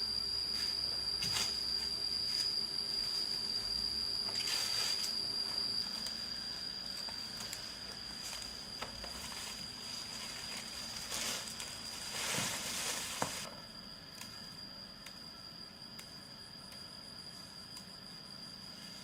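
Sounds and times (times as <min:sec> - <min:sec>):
insect high-pitched trill: 0:00.0 - 0:19.0.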